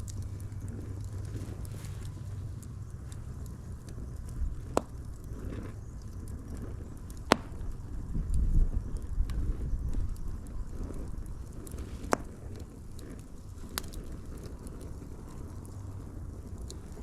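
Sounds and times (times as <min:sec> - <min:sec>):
sharp pops of burning wood: 0:00.0 - 0:17.0
wood fire crackling: 0:00.0 - 0:17.0.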